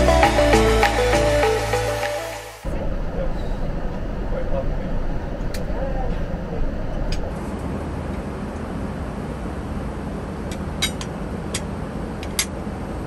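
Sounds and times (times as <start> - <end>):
airplane cabin noise: 2.0 - 13.0.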